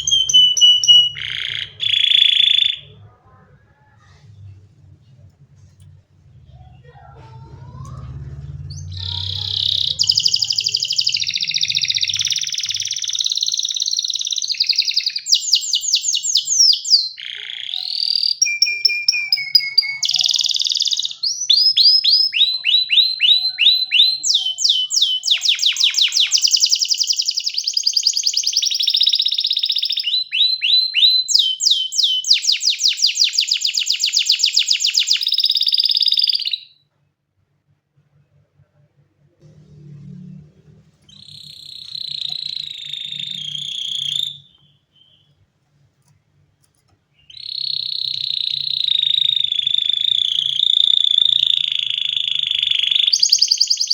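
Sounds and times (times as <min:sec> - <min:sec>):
canary singing trills: 0:00.0 - 0:04.0, 0:06.4 - 0:36.8, 0:41.1 - 0:45.4, 0:47.1 - 0:53.9.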